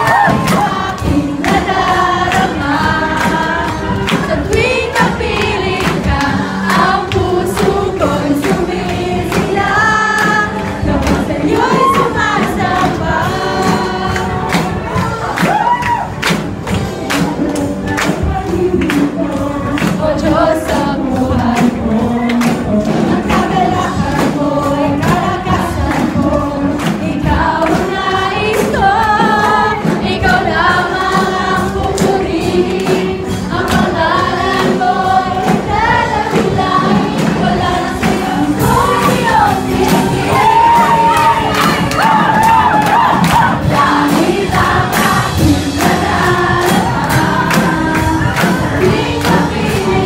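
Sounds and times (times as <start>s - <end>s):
crowd singing worship song: 0.0s - 50.0s
live band playing: 0.0s - 50.0s
steady drum beat: 0.0s - 50.0s.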